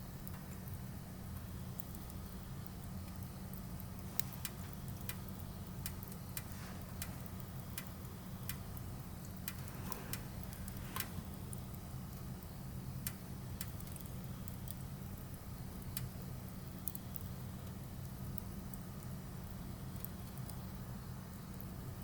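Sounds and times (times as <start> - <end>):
firewood crackling: 0.0 - 22.0
sharp pops of fire: 0.1 - 21.7.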